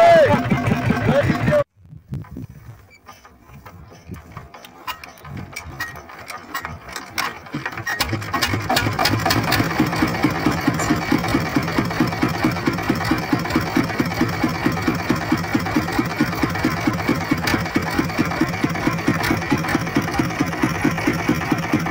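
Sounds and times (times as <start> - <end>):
diesel engine idling: 0.0 - 1.7, 3.2 - 21.9.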